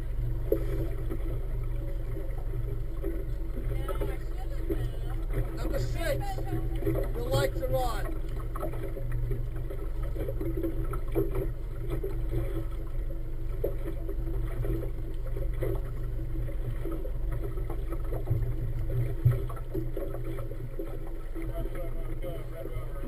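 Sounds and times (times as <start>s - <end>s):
motorboat engine humming: 0.0s - 23.0s.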